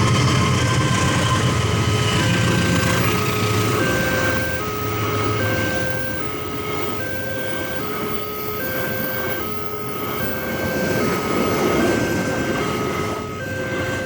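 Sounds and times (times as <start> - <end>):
passing train rumble: 0.0 - 14.0
level crossing alarm two-tone: 1.9 - 14.0.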